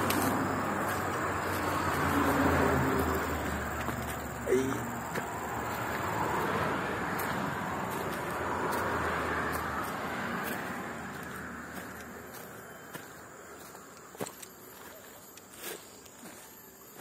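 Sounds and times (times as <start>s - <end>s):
vehicle passing: 0.0s - 13.9s.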